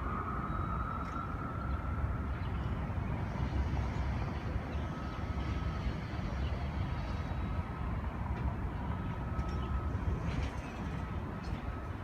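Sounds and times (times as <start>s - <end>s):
city traffic rumble: 0.0s - 12.0s
faint steady tone: 0.0s - 12.0s.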